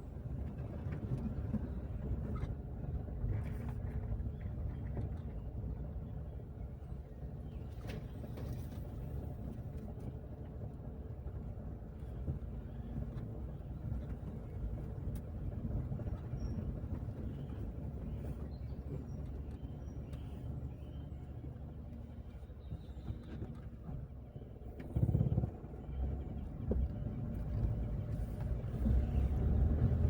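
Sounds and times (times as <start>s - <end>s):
car driving on road: 0.0s - 30.0s.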